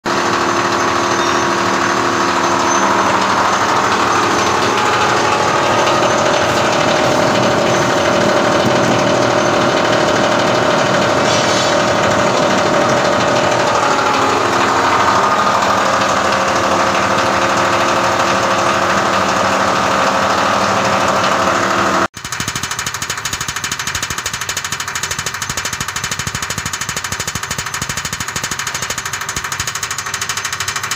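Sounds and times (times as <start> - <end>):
grinding machine whirring: 0.1 - 30.9.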